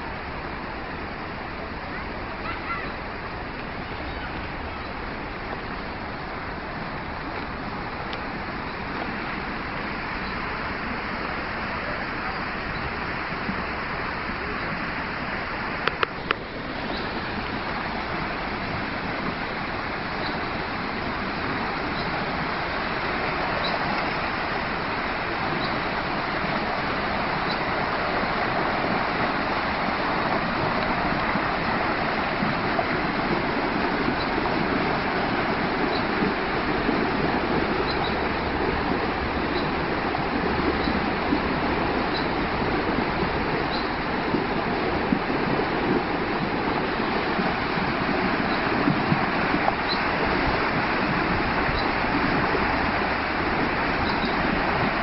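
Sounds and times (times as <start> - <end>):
water rushing over stones: 0.0 - 55.0.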